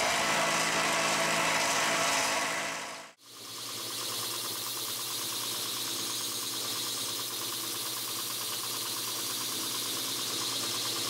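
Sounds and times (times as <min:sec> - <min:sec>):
belt grinder motor hum: 0:00.0 - 0:11.0.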